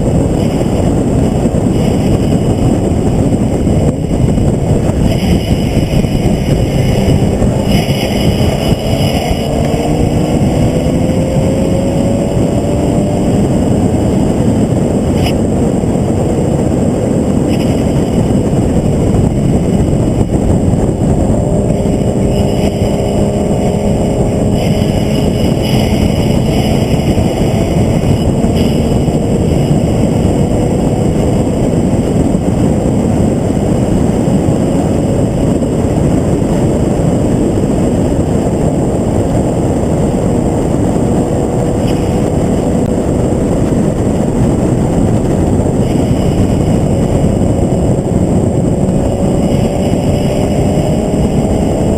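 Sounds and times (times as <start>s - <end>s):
race car engine accelerating: 0.0s - 51.9s
wind and road noise: 0.0s - 51.9s.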